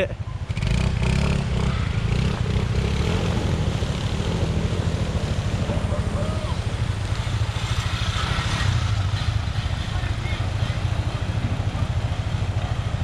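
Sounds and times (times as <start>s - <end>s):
motorcycle engine chugging: 0.0s - 13.0s.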